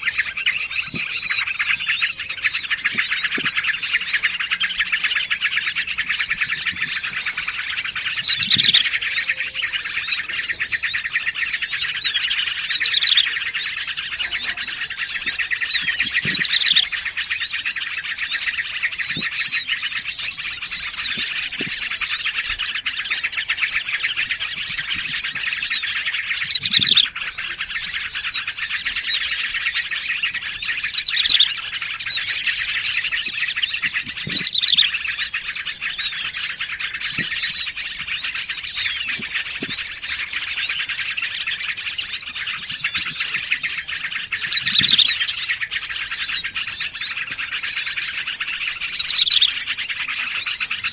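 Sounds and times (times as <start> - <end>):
high buzzy bird trill: 0.0 - 50.9
songbird chorus: 0.0 - 50.9.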